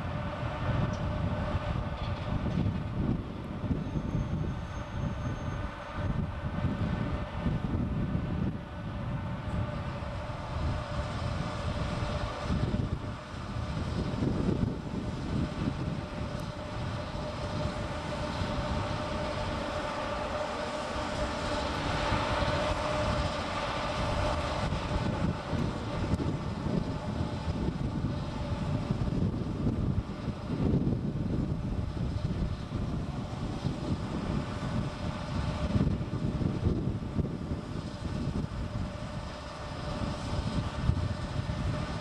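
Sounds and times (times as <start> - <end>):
locomotive equipment humming: 0.0 - 42.0
wind rumble on microphone: 0.0 - 42.0.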